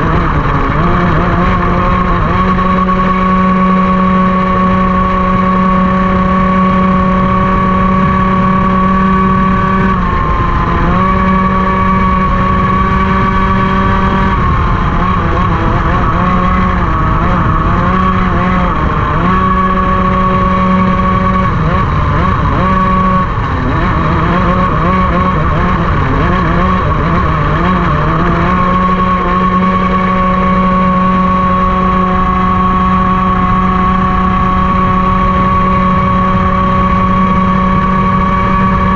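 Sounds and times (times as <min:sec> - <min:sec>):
kart engine at high revs: 0:00.0 - 0:38.9.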